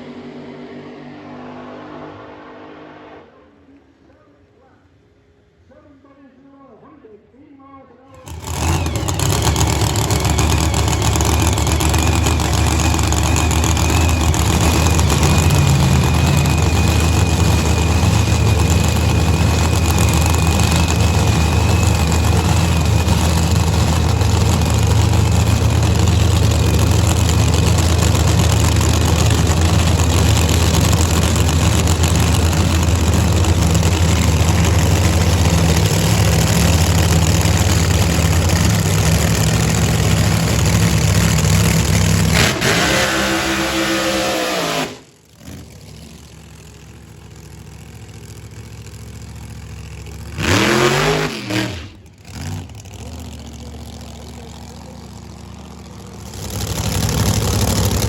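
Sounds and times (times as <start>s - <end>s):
drag racing engine idling: 8.1s - 58.0s.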